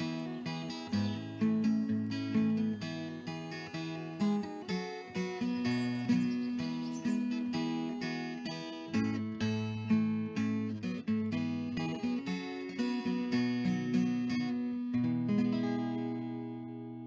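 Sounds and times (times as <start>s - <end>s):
acoustic guitar strumming and picking: 0.0s - 17.0s.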